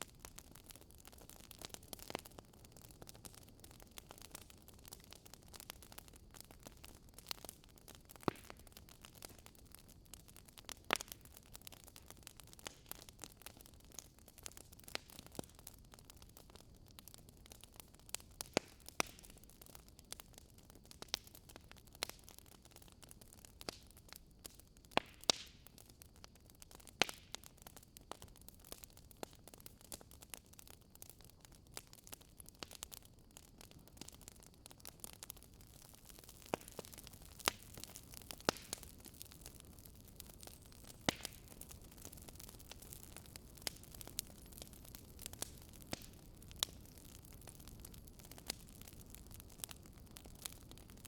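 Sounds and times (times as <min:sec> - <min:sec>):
faint steady hiss: 0:00.0 - 0:51.0
logs crackling and popping: 0:00.0 - 0:51.0.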